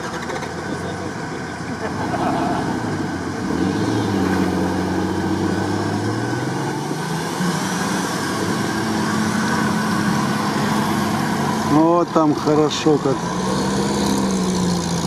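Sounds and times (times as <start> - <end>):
off-road vehicle engines revving: 0.0 - 15.0.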